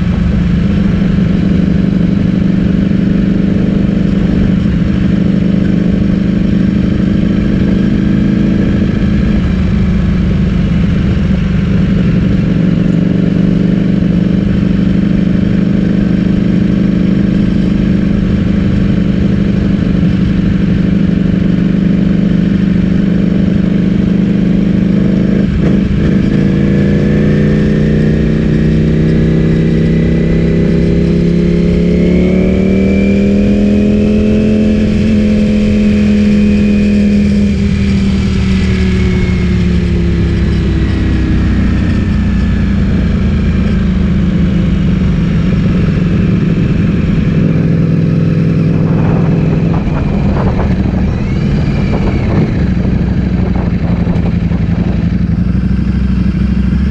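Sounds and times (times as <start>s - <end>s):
loud motorcycle engine: 0.0s - 56.9s.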